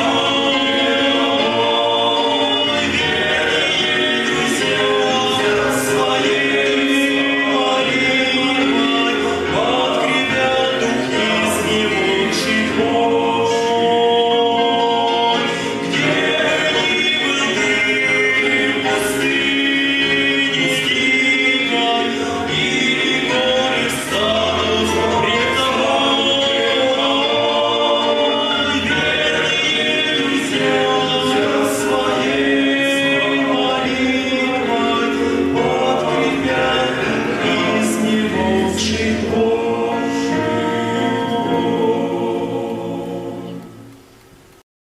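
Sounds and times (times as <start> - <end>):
men's choir singing a hymn: 0.0 - 44.0.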